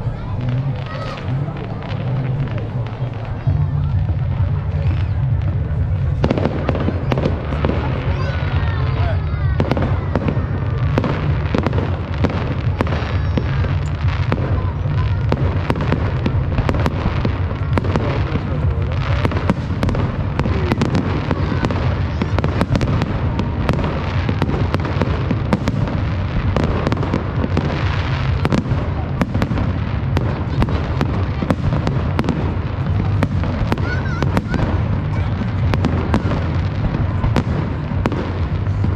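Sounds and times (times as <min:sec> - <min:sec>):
fireworks bangs and crackles: 0:00.0 - 0:38.9
people's voices: 0:00.0 - 0:38.9.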